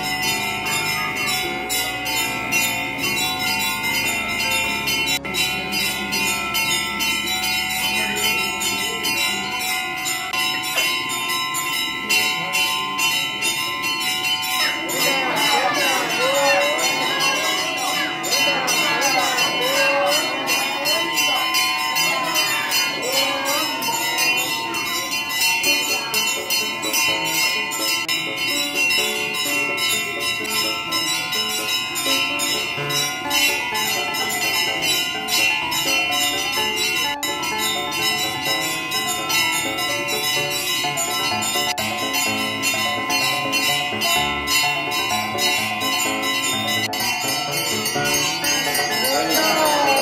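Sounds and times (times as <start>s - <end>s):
music playing: 0.0s - 50.0s
temple bells ringing: 0.0s - 50.0s.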